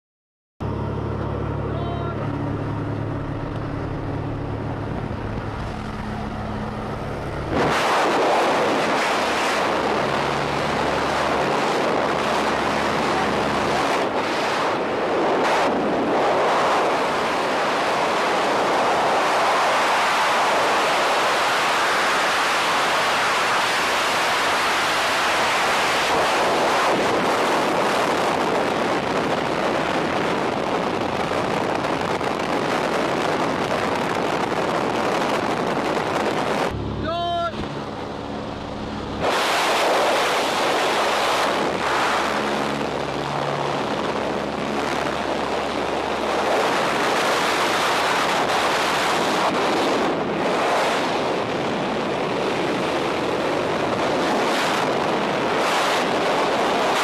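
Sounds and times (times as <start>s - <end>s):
plane engine droning: 0.6s - 57.0s
rush of wind: 0.6s - 57.0s.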